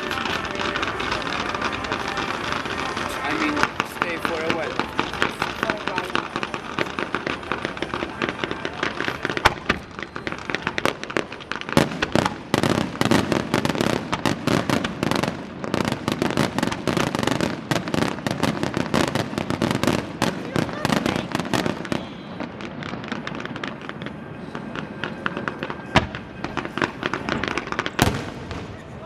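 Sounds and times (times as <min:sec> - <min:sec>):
fireworks bangs: 0:00.0 - 0:29.0
fireworks crackling: 0:00.0 - 0:29.0.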